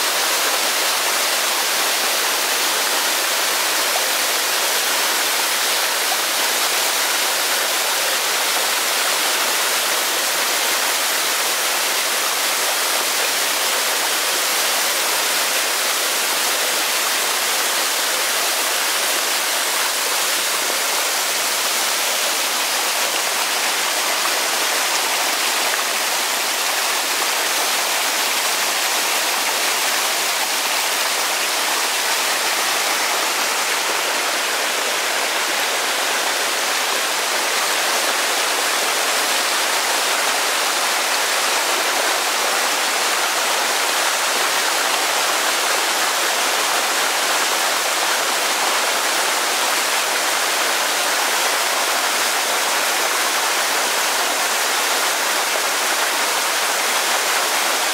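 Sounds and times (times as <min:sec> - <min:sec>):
waterfall rushing over rocks: 0:00.0 - 0:57.9.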